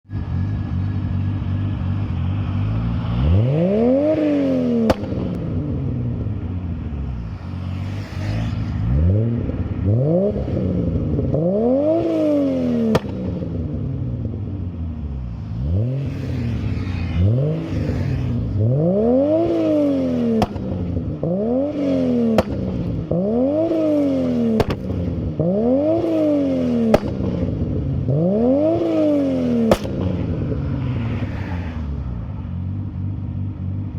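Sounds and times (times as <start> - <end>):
car engine revving: 0.1 - 33.9
exhaust crack: 2.2 - 7.9, 8.5 - 14.7, 15.5 - 33.4.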